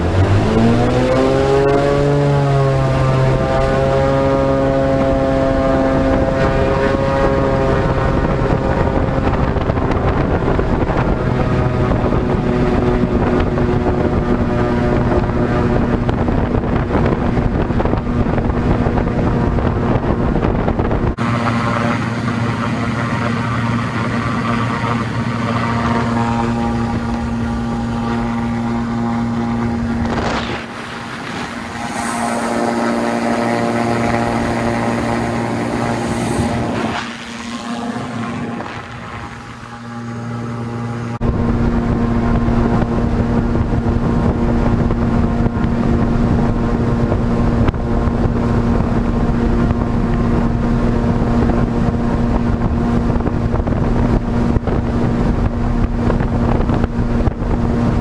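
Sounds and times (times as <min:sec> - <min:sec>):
propeller plane engine at high power: 0:00.0 - 0:58.0.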